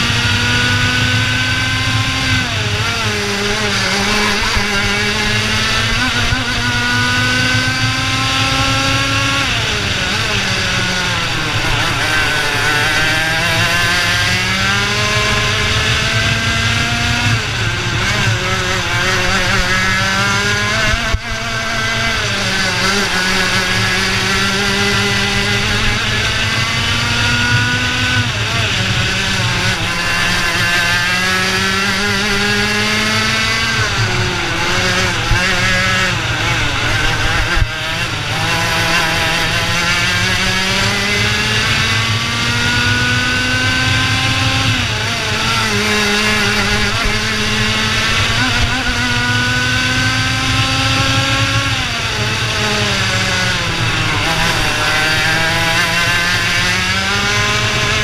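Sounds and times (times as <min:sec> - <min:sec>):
kart engine revving: 0:00.0 - 0:58.0
wind and tyre noise: 0:00.0 - 0:58.0.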